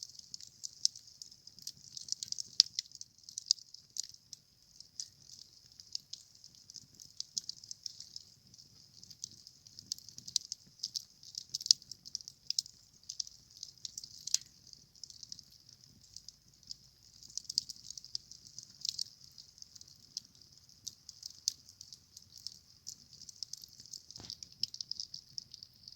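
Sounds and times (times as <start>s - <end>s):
campfire wood crackling: 0.0s - 25.9s.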